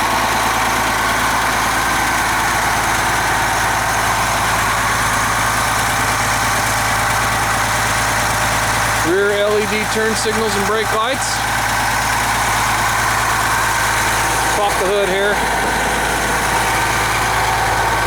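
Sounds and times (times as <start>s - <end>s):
diesel bus engine idling: 0.0s - 18.0s.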